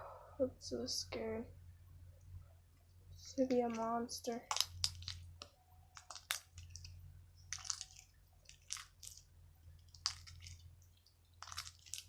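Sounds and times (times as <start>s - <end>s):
dough squishing and crackling: 2.0s - 12.0s.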